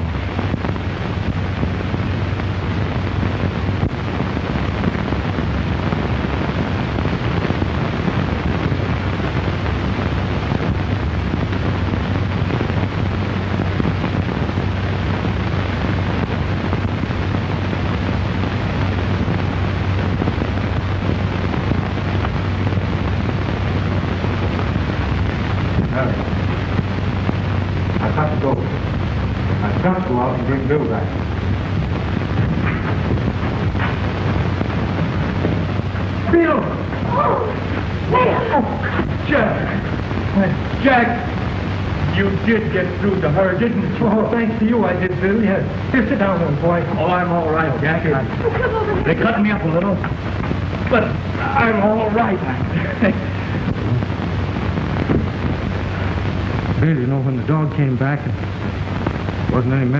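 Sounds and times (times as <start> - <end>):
constant low hum: 0.0 - 59.9
film soundtrack hiss and crackle: 0.0 - 59.9.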